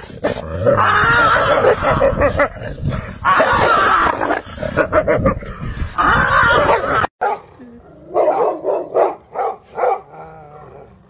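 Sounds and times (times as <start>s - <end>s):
dog and wolves growling: 0.0s - 7.1s, 7.8s - 11.0s.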